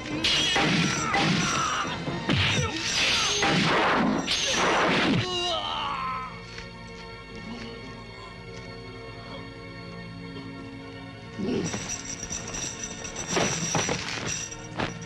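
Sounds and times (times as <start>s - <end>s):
film score music: 0.0s - 15.0s.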